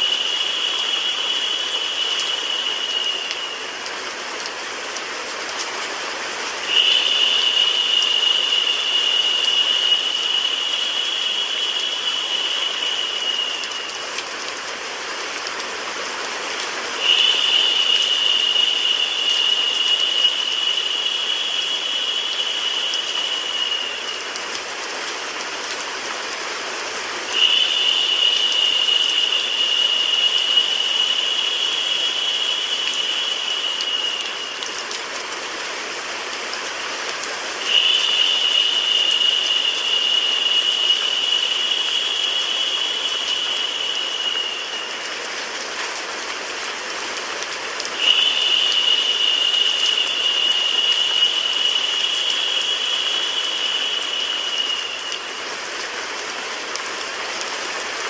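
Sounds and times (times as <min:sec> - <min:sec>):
brighter higher hiss: 0:00.0 - 0:25.6, 0:26.2 - 0:46.9, 0:47.5 - 0:57.4
rain with white noise hiss: 0:00.0 - 0:58.0.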